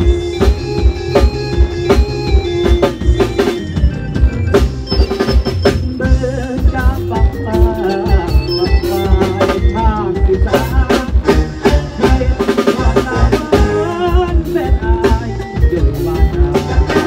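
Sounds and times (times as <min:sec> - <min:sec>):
drum kit steady beat: 0:00.0 - 0:17.0
electric guitar melody: 0:00.0 - 0:17.0.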